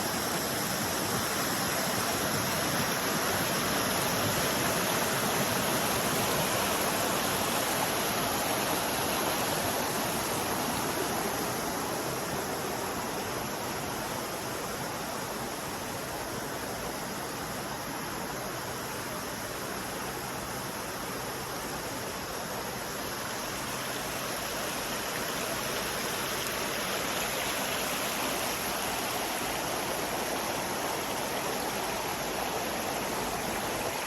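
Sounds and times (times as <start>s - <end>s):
rush of flowing water: 0.0s - 34.0s.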